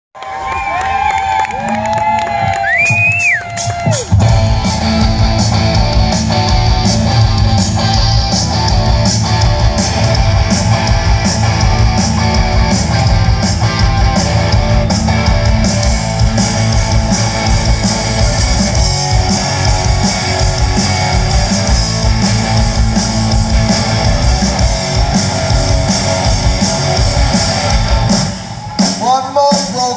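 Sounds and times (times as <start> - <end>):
electric guitars: 2.1 - 29.0
bass guitar: 2.4 - 29.9
drum kit: 2.4 - 29.9.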